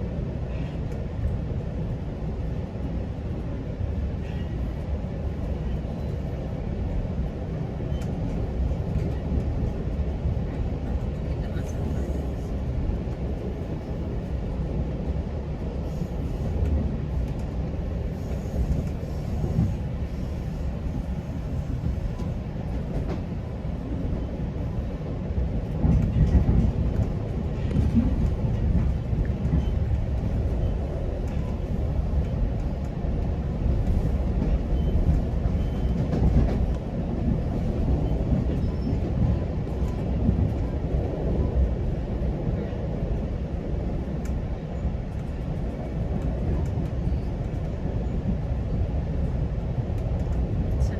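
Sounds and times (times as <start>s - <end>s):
train rumbling along track: 0.0s - 50.9s.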